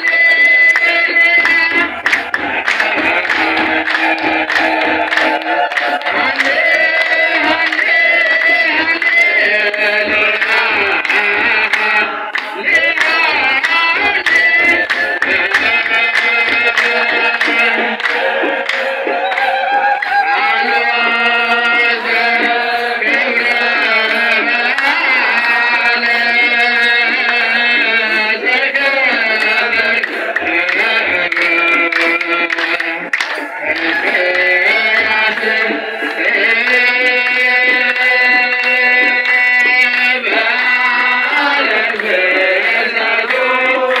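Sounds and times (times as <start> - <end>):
men chanting in held tones: 0.0 - 44.0
steady drum beat: 0.0 - 44.0.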